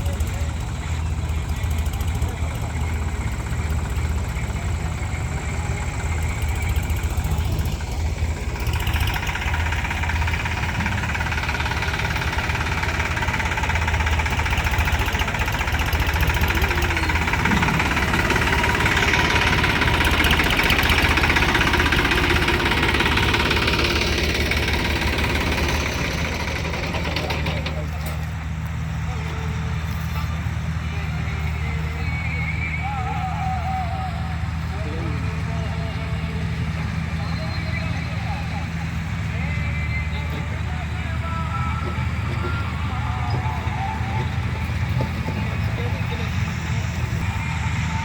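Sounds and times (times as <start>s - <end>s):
combine harvester machine noise: 0.0s - 48.0s
diesel engine idling: 0.0s - 48.0s.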